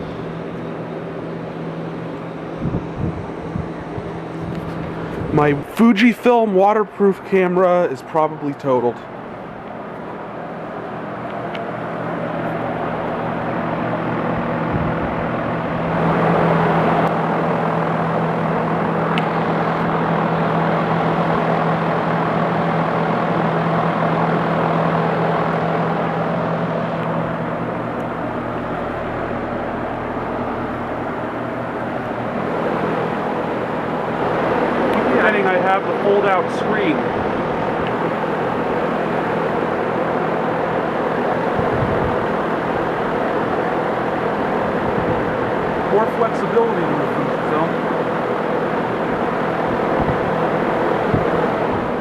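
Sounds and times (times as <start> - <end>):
fan whoosh: 0.0 - 52.0
low compressor hum: 0.0 - 52.0.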